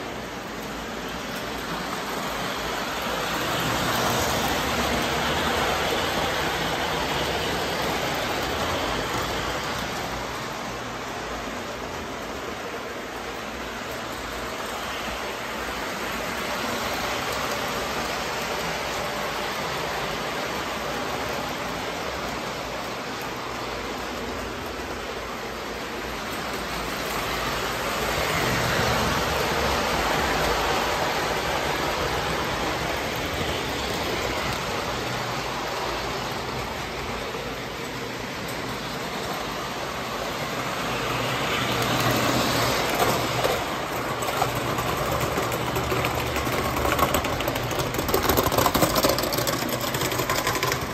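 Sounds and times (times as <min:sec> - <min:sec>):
model train motor and wheels: 0:00.0 - 0:50.9.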